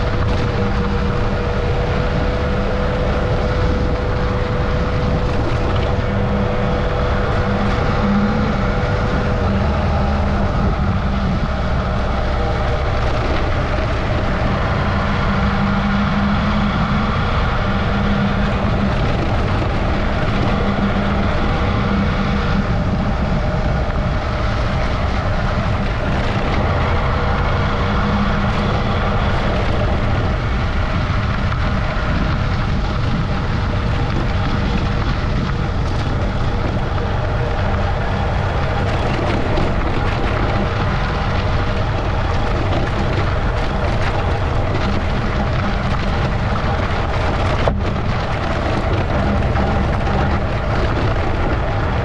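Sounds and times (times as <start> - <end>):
motorcycle engine running: 0.0 - 52.0
wind noise: 0.0 - 52.0.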